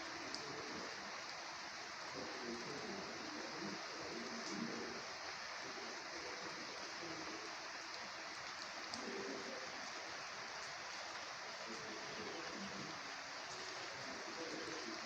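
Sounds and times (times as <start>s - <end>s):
light rain hiss: 0.0s - 15.0s
raindrop ticks: 0.0s - 15.0s.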